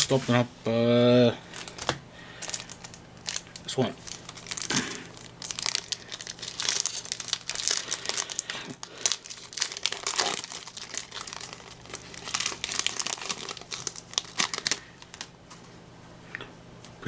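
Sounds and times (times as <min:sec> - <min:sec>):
foil wrapper tearing and crinkling: 0:01.5 - 0:15.3.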